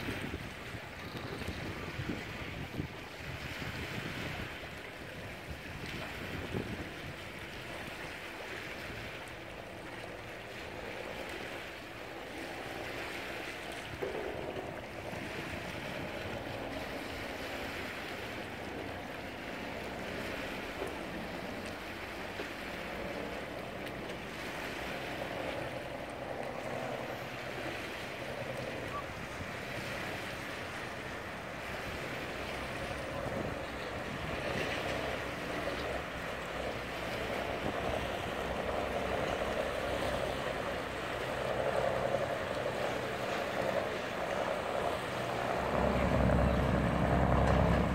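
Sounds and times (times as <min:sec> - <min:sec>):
boat engine running: 0:00.0 - 0:47.9
river water lapping: 0:00.0 - 0:47.9
wind buffeting microphone: 0:00.0 - 0:47.9.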